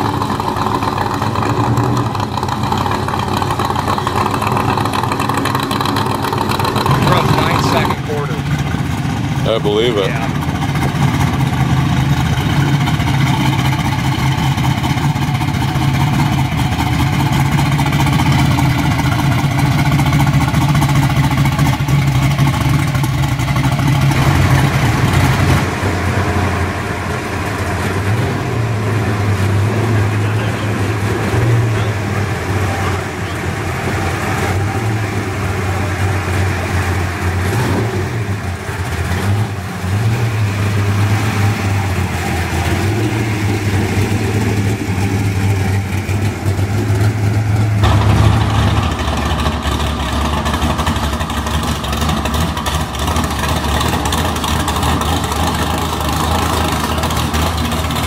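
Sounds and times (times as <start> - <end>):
car engine running slowly: 0.0 - 58.0.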